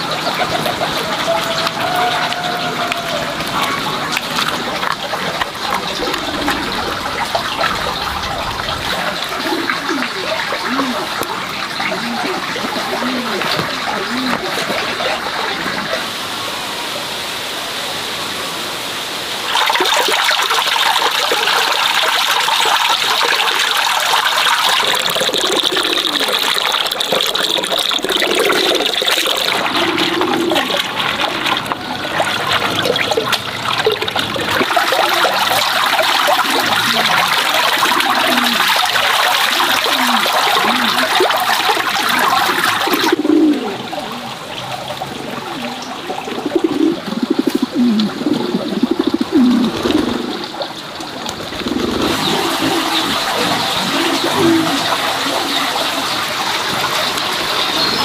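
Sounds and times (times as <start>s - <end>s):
water pouring into a plastic basin: 0.0s - 16.5s, 19.4s - 58.0s.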